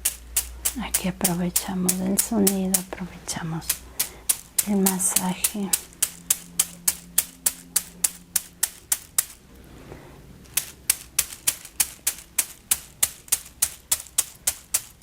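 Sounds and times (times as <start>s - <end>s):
massage rods tapping: 0.0s - 9.4s, 10.4s - 15.0s.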